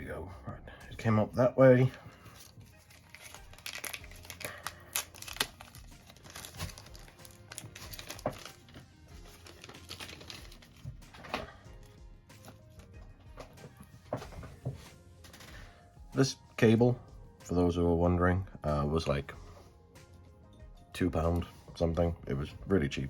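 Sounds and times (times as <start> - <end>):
quiet background music: 0.0 - 23.0.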